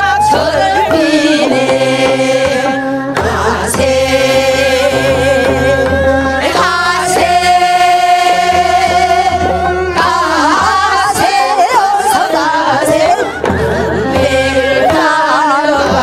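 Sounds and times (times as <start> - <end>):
musical accompaniment: 0.0 - 16.0
women singing folk song together: 0.0 - 16.0.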